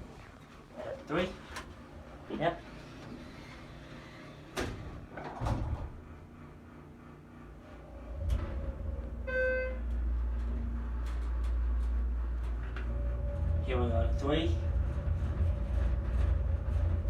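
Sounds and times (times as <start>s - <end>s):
low elevator machinery hum: 0.0s - 17.0s
elevator doors sliding closed: 1.4s - 17.0s.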